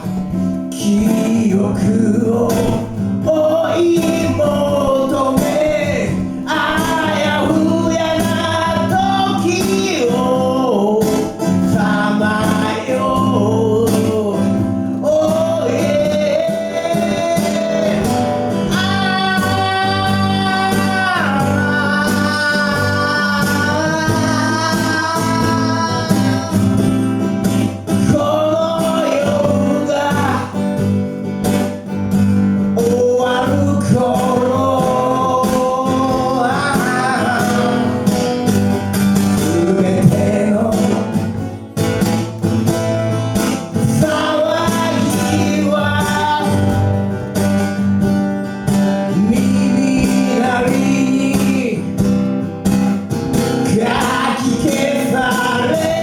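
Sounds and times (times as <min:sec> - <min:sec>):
guitar accompaniment: 0:00.0 - 0:56.0
held bending lead melody: 0:00.0 - 0:56.0.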